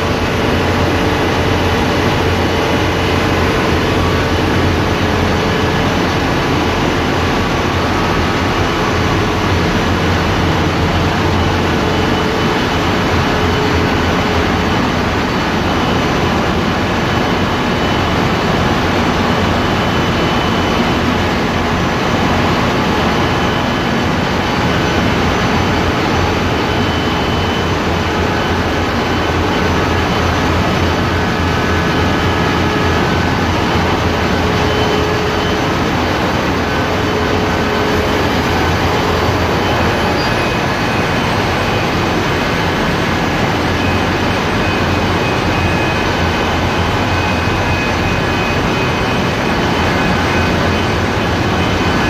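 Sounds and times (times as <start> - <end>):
diesel engine roar: 0.0 - 52.0.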